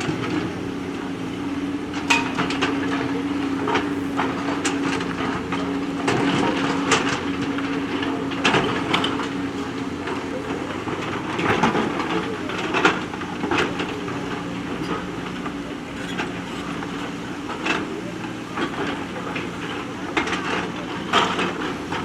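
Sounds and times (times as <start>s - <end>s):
backhoe engine running: 0.0s - 22.0s.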